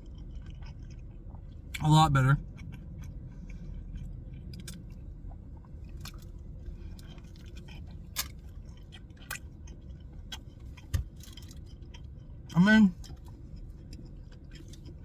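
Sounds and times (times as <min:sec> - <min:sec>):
person chewing: 0:00.0 - 0:01.8, 0:02.4 - 0:15.0
steady low rumble: 0:00.0 - 0:15.0.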